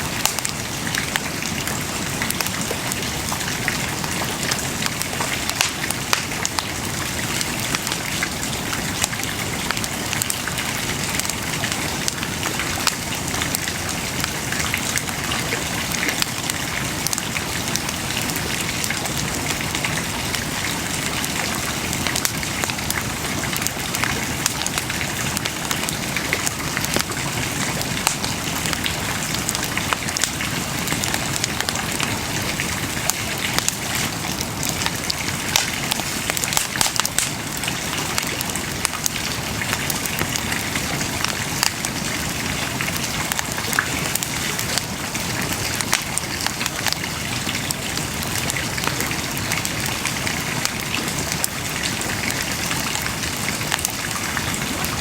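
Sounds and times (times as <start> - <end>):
bonfire crackling: 0.0 - 55.0.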